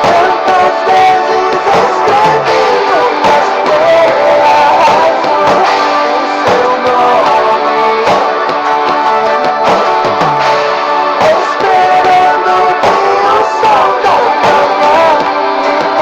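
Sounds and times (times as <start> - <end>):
pop-rock ballad with guitar: 0.0 - 16.0.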